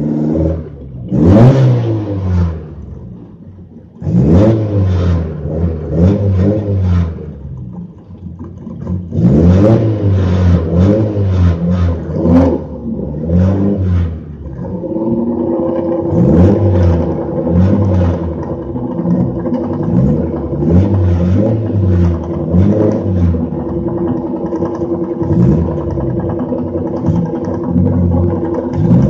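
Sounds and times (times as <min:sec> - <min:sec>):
car engine revving hard: 0:00.0 - 0:03.2, 0:04.0 - 0:07.7, 0:08.5 - 0:29.0.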